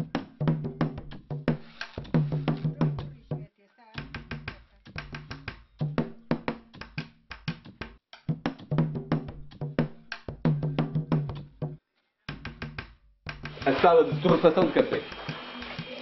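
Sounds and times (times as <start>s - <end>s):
fast dense percussion: 0.0s - 16.0s.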